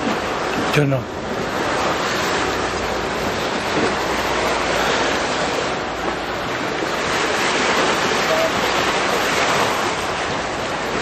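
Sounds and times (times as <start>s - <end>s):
ferry engine hum: 0.0s - 11.0s
water churning along hull: 0.0s - 11.0s.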